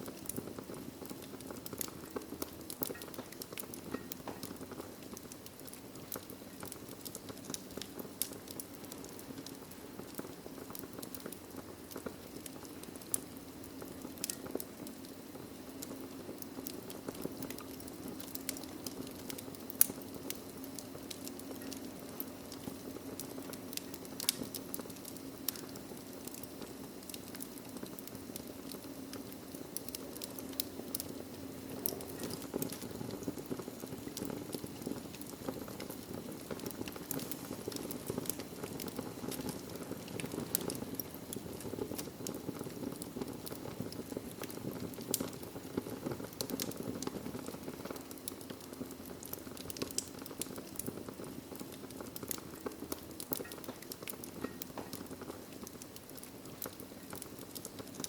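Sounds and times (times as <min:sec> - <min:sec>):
low rush of flames: 0:00.0 - 0:58.0
wood fire crackling and popping: 0:00.0 - 0:58.0.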